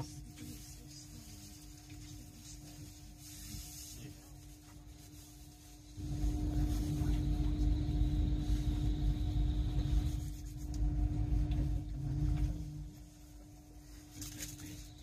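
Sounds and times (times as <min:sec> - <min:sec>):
train rumble inside carriage: 0:00.0 - 0:13.6
steady hum: 0:00.0 - 0:15.0.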